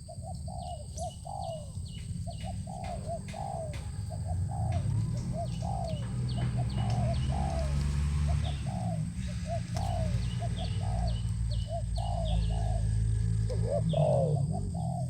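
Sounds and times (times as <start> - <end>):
doves cooing: 0.0 - 15.0
small bird chirping: 0.0 - 15.0
steady low rumble: 0.0 - 15.0.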